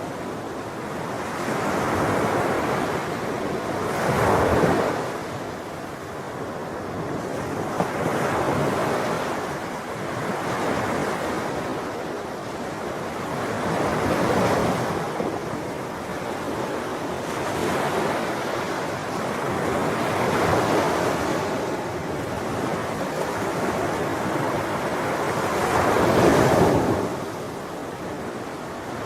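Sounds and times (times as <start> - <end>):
sea waves breaking on shore: 0.0 - 29.0.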